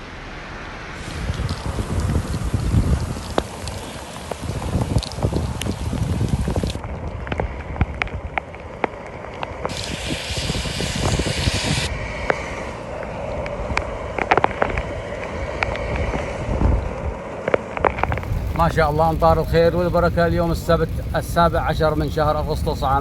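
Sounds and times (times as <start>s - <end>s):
raindrops on a hard surface: 0.0s - 16.9s, 17.8s - 23.0s
wind on microphone: 0.9s - 23.0s.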